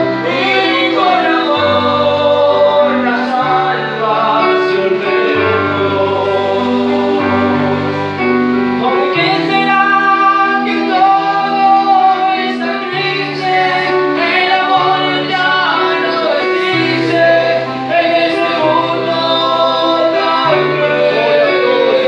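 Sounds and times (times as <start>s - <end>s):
electronic keyboard chords: 0.0s - 22.0s
men singing a hymn: 0.0s - 22.0s.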